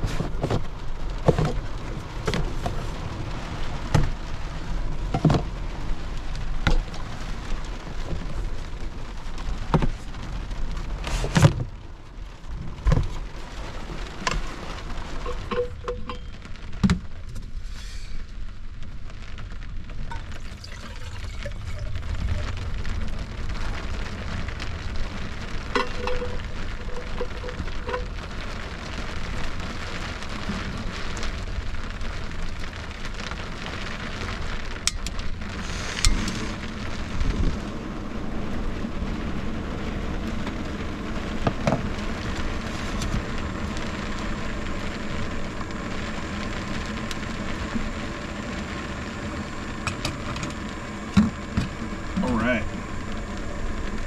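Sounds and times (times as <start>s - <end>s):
rain drumming on camper shell: 0.0s - 54.0s.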